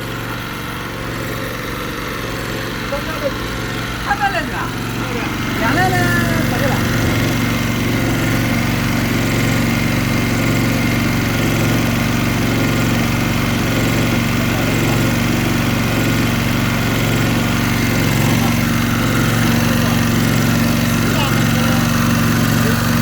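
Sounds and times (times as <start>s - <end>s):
petrol generator engine running: 0.0s - 23.0s.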